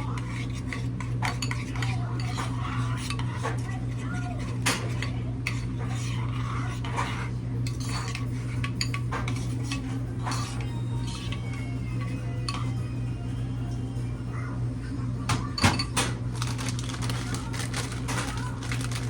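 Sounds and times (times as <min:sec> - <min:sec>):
metal utensils clinking on bowl: 0:00.0 - 0:12.9, 0:15.3 - 0:19.0.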